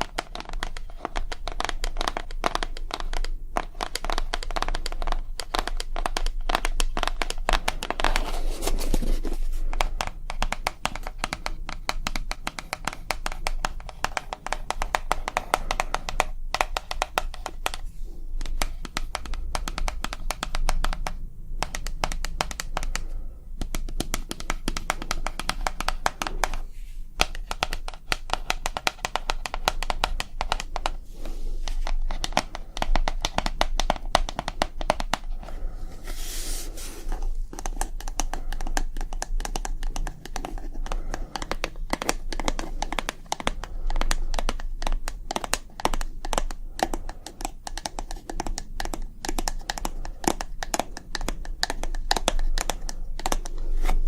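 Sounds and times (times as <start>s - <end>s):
rapid tapping and crinkling: 0.0s - 54.0s
steady low hum: 0.0s - 54.0s.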